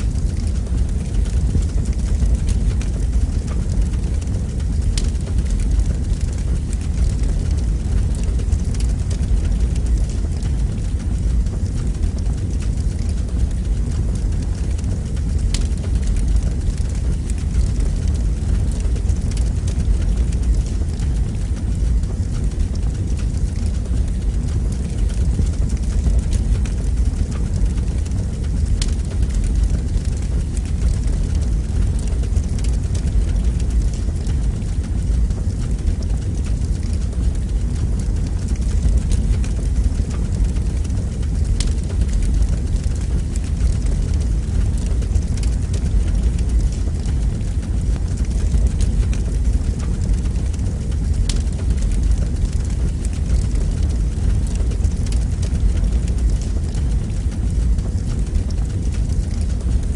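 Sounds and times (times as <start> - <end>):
fire crackle: 0.0 - 59.9
fire rumbling in fireplace: 0.0 - 59.9.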